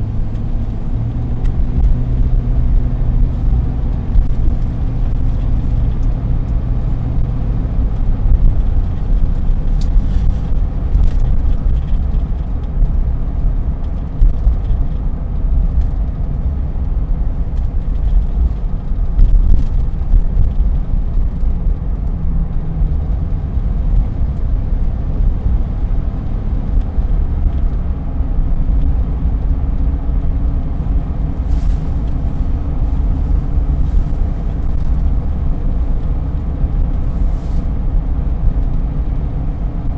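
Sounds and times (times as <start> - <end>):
pickup engine and road noise: 0.0 - 39.9.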